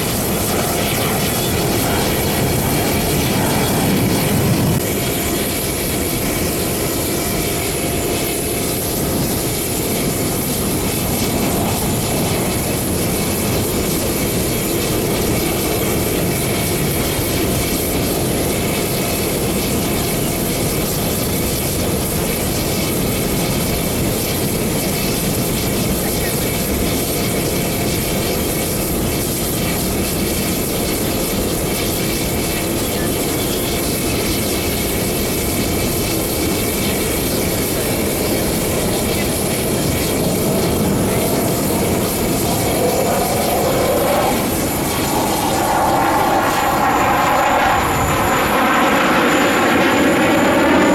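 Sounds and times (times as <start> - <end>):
jet fighters flying overhead: 0.0 - 50.9.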